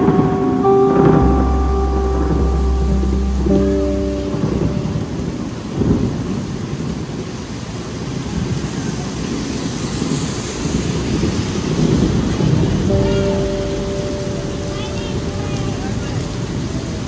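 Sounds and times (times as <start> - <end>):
rain falling: 0.0 - 17.0
rumble of thunder: 0.0 - 17.0.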